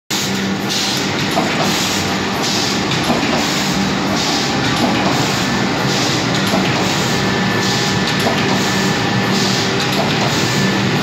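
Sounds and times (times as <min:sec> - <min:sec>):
printing press clattering: 0:00.1 - 0:11.0
low machine hum: 0:00.2 - 0:11.0.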